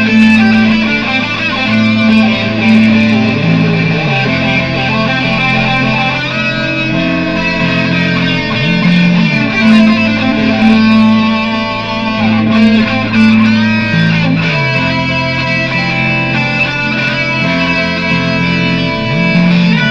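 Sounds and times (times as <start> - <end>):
electric guitar improvisation: 0.0 - 19.9
looped guitar part: 0.0 - 19.9.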